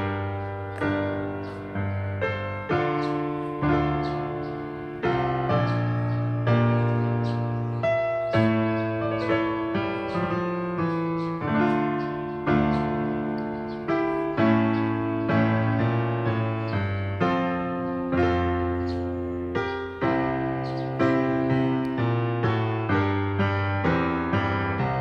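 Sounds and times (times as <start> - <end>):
slow gentle piano chords: 0.0 - 25.0.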